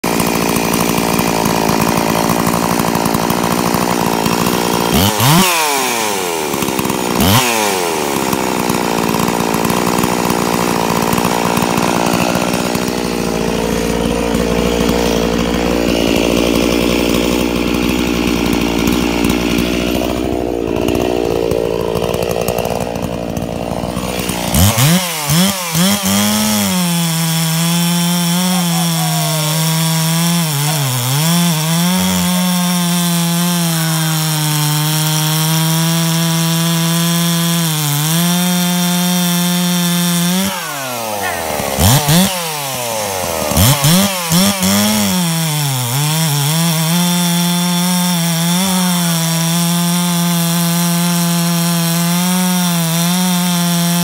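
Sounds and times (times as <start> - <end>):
chainsaw cutting into log: 0.0 - 54.0
chainsaw revving: 0.0 - 54.0.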